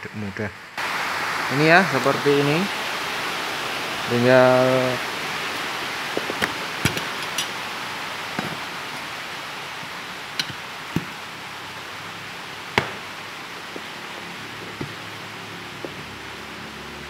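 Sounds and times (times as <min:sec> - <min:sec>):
rain hissing: 0:00.1 - 0:17.0.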